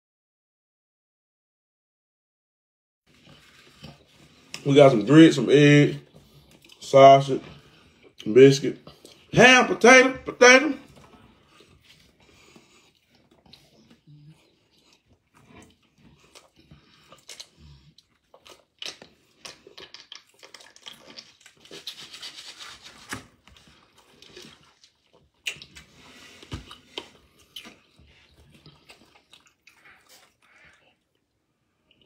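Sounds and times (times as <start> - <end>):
chewing and smacking: 3.1 - 5.1, 5.9 - 9.3, 10.8 - 32.0.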